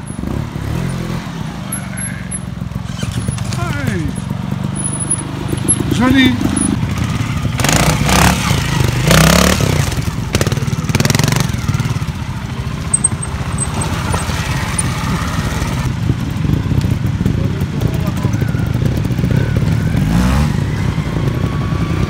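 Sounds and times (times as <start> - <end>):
motorcycle engine blipping and idling: 1.7 - 7.8, 9.8 - 22.0.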